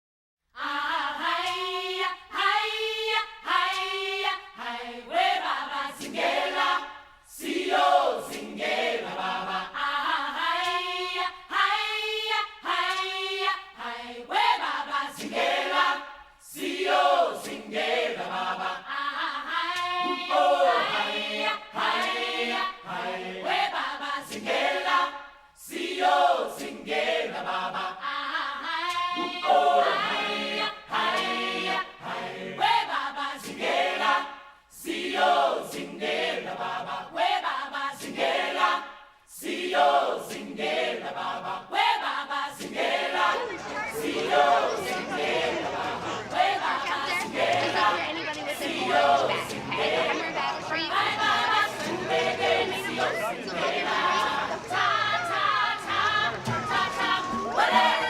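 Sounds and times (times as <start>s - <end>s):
choir singing: 0.5s - 58.0s.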